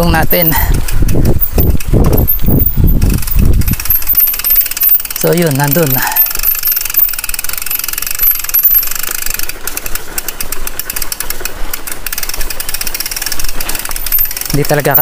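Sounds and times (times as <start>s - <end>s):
mountain bike rattling: 0.0s - 15.0s.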